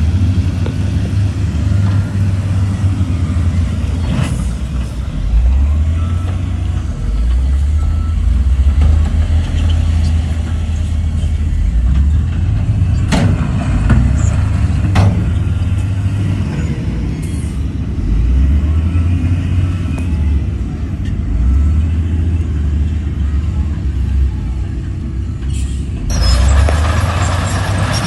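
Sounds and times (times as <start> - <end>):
heavy diesel engine rumbling: 0.0 - 28.0.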